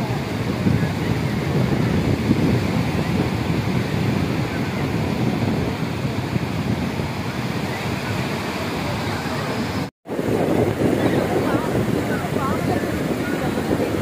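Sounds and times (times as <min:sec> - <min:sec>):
small waves breaking on beach: 0:00.0 - 0:14.0
wind buffeting microphone: 0:00.0 - 0:14.0.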